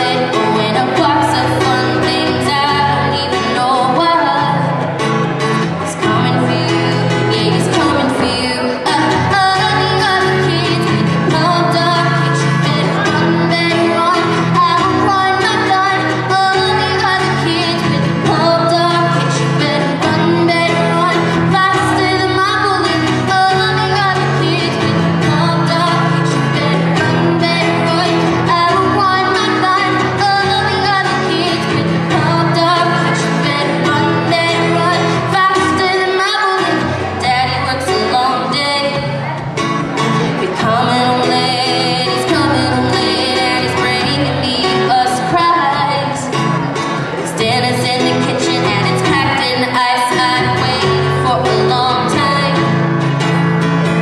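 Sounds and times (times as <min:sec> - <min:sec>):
person singing: 0:00.0 - 0:54.0
strummed acoustic guitar: 0:00.0 - 0:54.0.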